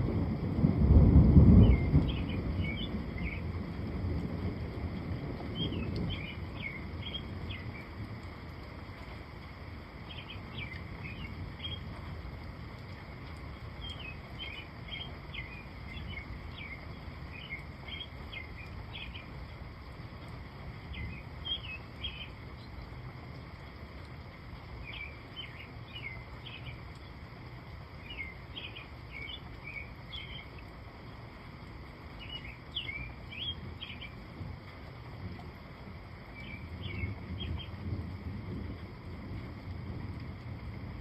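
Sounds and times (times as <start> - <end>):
low outdoor background rumble: 0.0 - 41.0.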